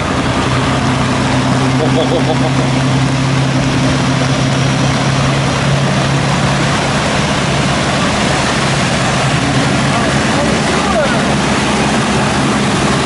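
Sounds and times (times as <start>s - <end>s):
constant rushing noise: 0.0s - 13.0s
vehicle engine humming: 0.0s - 13.0s.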